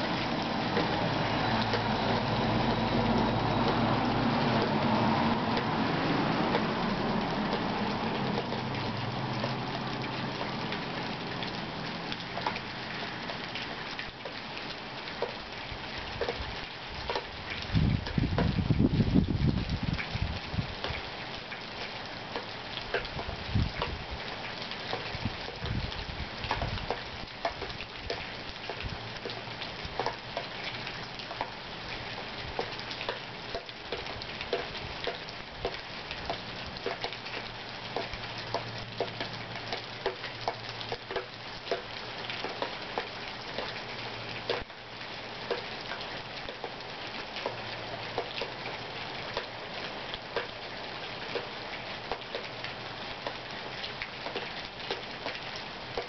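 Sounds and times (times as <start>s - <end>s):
rain falling steadily: 0.0s - 56.0s
raindrops ticking close by: 0.0s - 56.0s.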